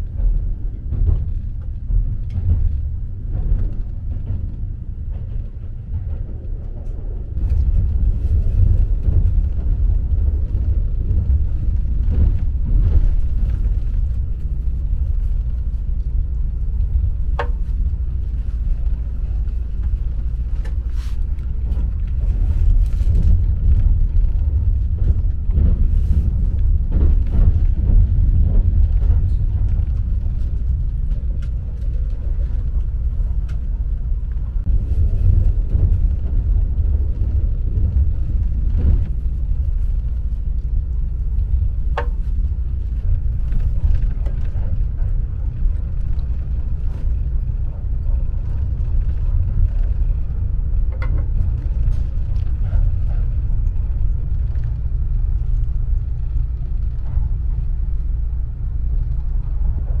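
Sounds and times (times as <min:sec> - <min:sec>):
train rumble inside cabin: 0:00.0 - 1:00.0.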